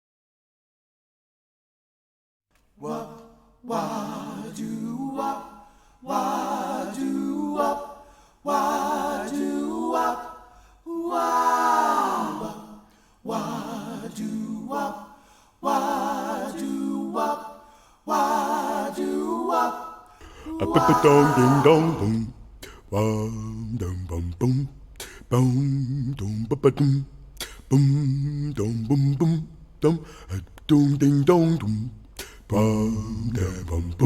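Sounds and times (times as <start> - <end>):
vocal group singing in harmony: 2.8 - 34.0.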